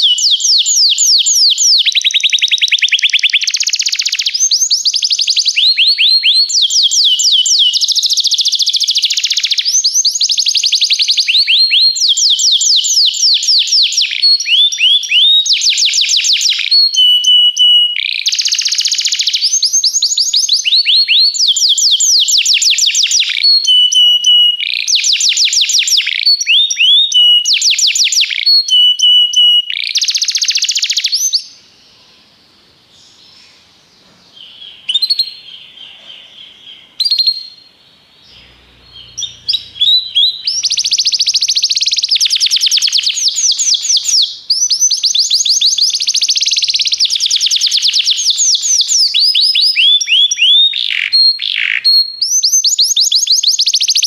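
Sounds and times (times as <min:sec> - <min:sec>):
canary singing trills: 0:00.0 - 0:32.4, 0:33.0 - 0:54.0
bird chirps: 0:00.0 - 0:54.0.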